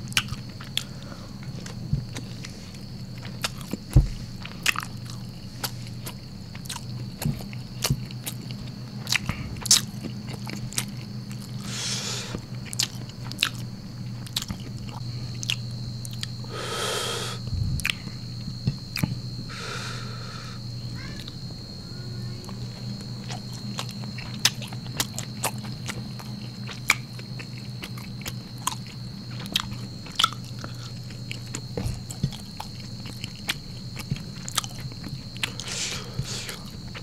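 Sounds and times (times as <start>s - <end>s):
steady low hum: 0.0s - 37.0s
wet chewing with lip smacks: 0.1s - 11.7s, 12.3s - 16.4s, 22.5s - 37.0s.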